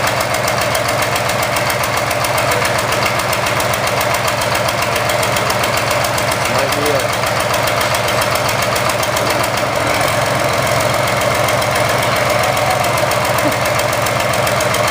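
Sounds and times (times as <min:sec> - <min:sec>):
engine idling with misfire: 0:00.0 - 0:14.9.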